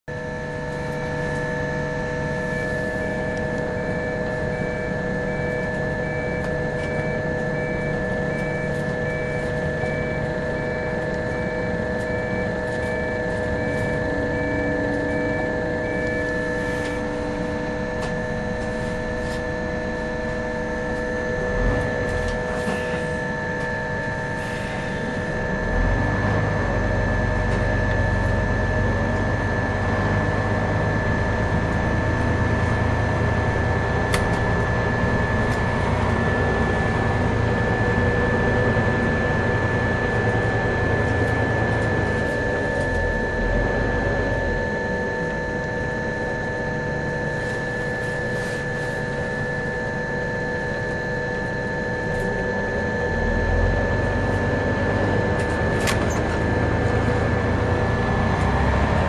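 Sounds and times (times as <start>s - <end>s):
bus engine whine and rumble: 0.0s - 59.0s.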